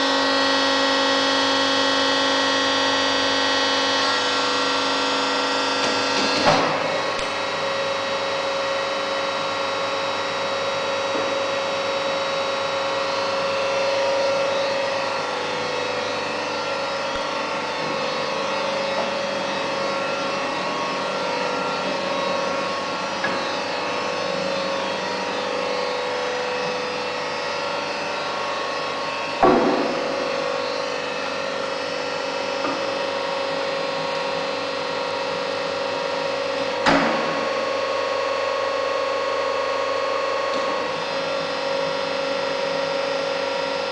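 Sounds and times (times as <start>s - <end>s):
hydraulic power unit humming: 0.0s - 43.9s.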